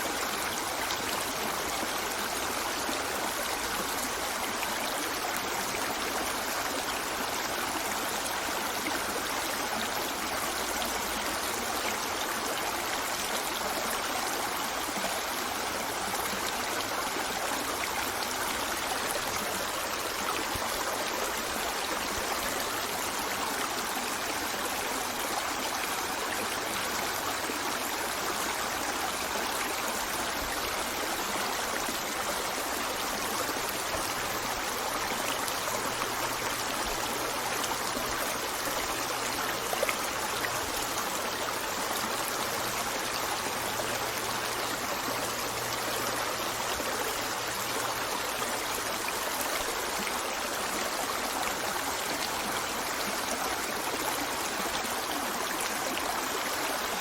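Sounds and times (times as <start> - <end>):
stream of water running: 0.0 - 57.0.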